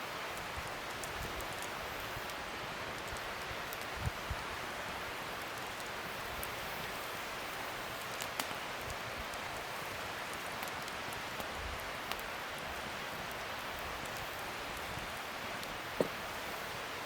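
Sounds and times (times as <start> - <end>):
fire crackles: 0.0 - 17.0
wood fire hissing: 0.0 - 17.0.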